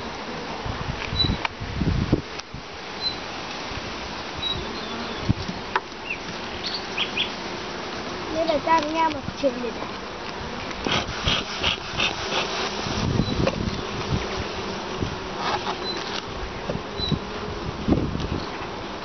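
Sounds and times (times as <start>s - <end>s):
honeybees humming: 0.0s - 19.0s.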